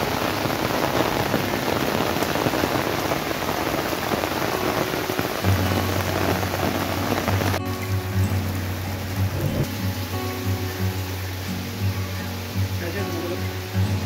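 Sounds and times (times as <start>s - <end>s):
heavy rain on leaves: 0.0s - 14.0s.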